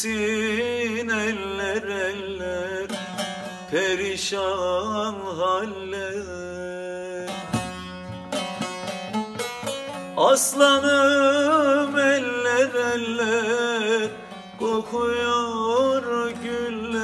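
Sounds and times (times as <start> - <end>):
man singing: 0.0 - 8.0, 10.1 - 17.0
plucked string instrument: 0.0 - 17.0.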